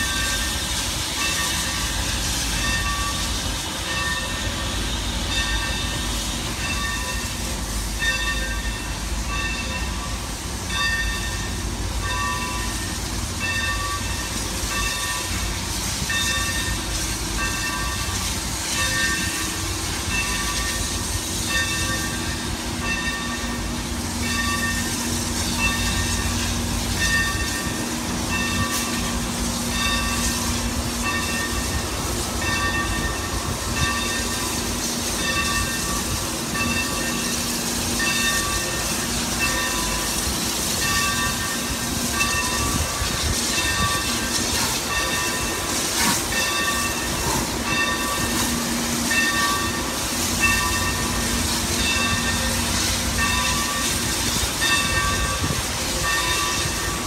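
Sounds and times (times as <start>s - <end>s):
locomotive bell ringing: 0.0s - 57.0s
locomotive engine rumble: 0.0s - 57.0s.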